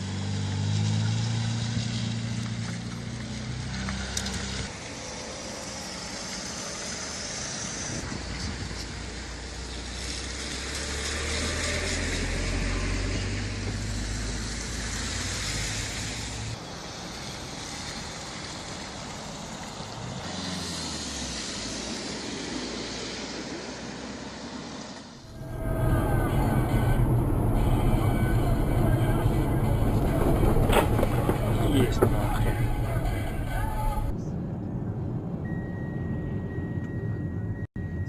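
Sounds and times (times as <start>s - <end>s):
car engine: 0.0s - 38.0s
road noise from driving: 0.0s - 38.0s.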